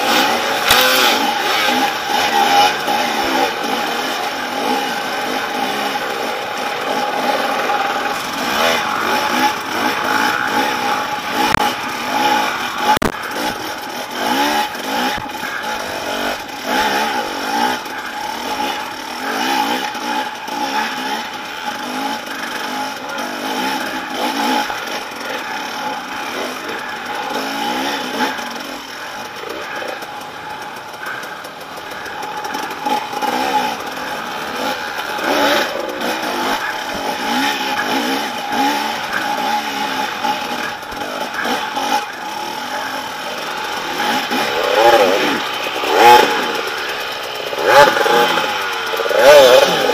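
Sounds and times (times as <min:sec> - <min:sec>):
dirt bike engines revving: 0:00.0 - 0:49.9.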